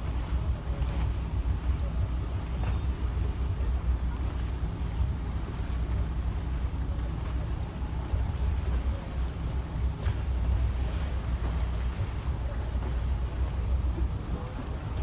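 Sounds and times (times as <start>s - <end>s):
boat noise: 0.0s - 15.0s.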